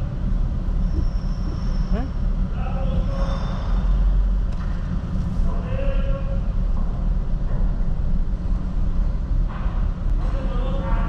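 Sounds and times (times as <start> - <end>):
van engine low rumble: 0.0 - 11.0.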